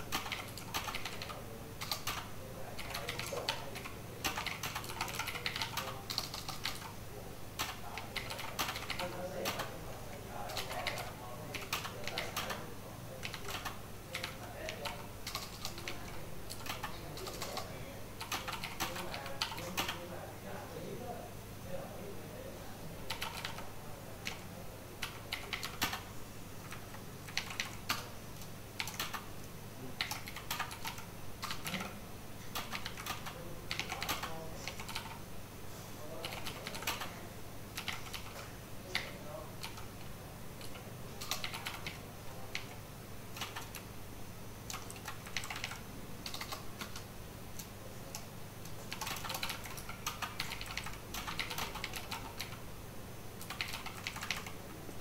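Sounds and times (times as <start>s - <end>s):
typing on computer keyboard: 0.0s - 7.0s, 7.6s - 9.8s, 10.4s - 20.1s, 23.1s - 29.3s, 30.0s - 35.2s, 36.1s - 37.2s, 37.8s - 40.0s, 40.6s - 43.9s, 44.7s - 52.6s, 53.4s - 54.7s.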